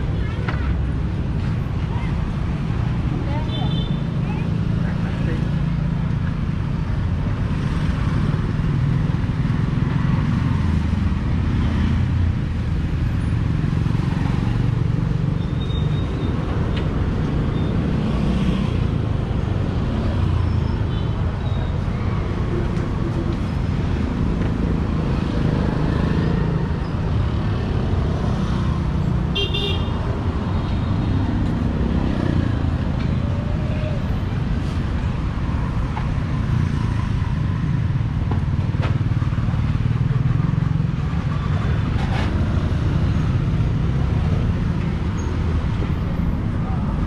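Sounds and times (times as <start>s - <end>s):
street traffic rumble: 0.0s - 47.0s.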